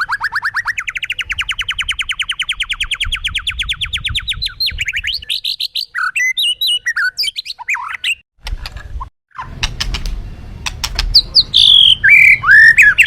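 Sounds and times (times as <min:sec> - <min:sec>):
songbird trilling and chirping: 0:00.0 - 0:08.2, 0:10.6 - 0:13.0.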